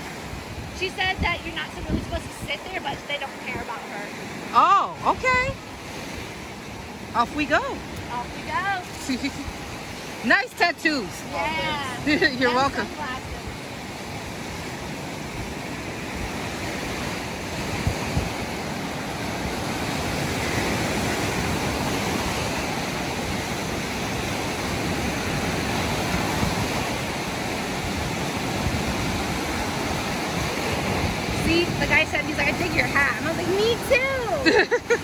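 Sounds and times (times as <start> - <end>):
waves washing up shore: 0.0 - 35.0
wind buffeting microphone: 0.0 - 35.0.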